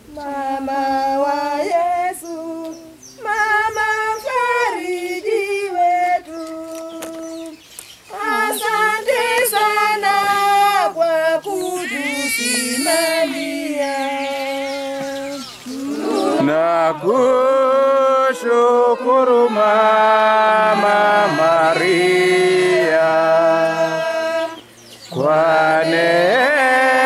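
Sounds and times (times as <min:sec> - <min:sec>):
women singing a chant: 0:00.0 - 0:27.0.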